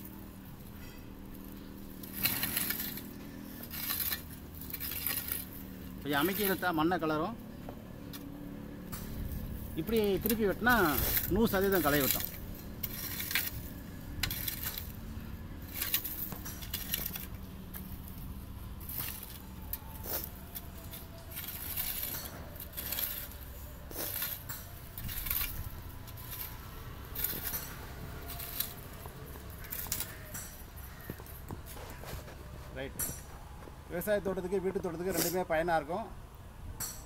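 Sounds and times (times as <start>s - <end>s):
metal tines scraping stony soil: 0.0s - 7.4s, 8.0s - 33.5s, 35.0s - 35.6s.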